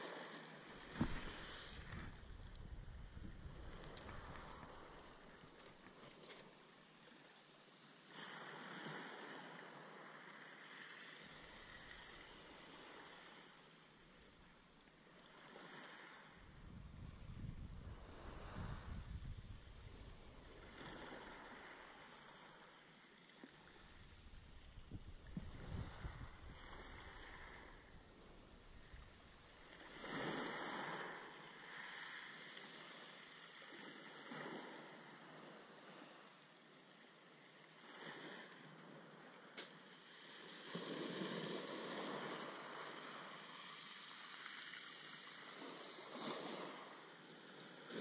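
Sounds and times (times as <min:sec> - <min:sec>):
small waves lapping: 0:00.0 - 0:07.3, 0:07.9 - 0:48.0.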